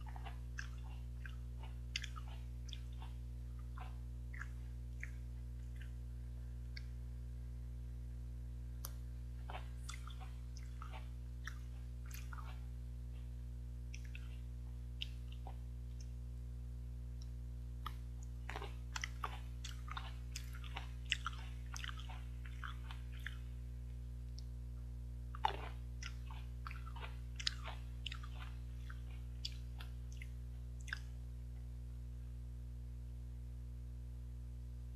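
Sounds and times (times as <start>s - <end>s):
person chewing grapes: 0.0s - 7.2s, 8.8s - 16.2s, 17.1s - 31.3s
low electrical hum: 0.0s - 34.9s.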